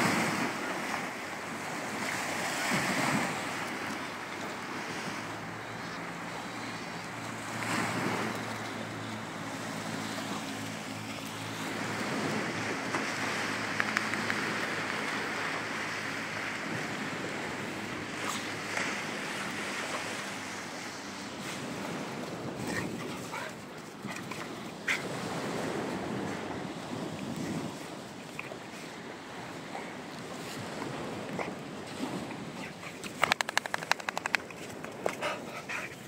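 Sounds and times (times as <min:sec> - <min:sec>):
sea surf breaking on beach: 0:00.0 - 0:36.0.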